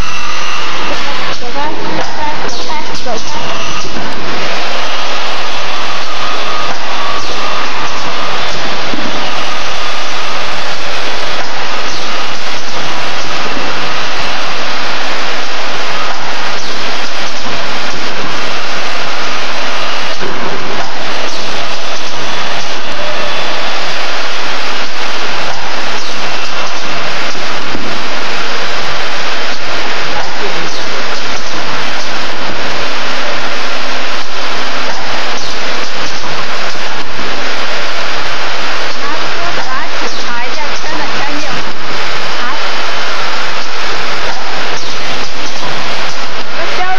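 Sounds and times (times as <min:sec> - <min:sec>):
factory machinery roar: 0:00.0 - 0:46.9.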